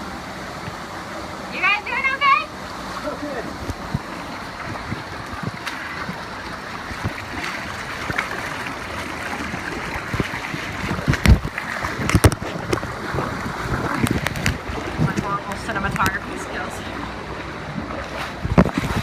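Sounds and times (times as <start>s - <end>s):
creek water running: 0.0s - 19.0s.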